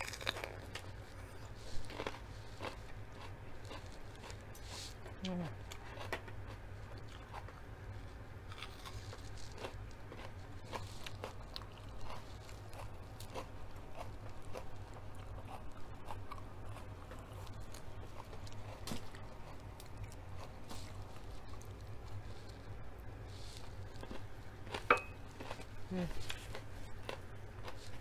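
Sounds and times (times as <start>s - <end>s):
chewing crunchy pepper: 0.0s - 28.0s.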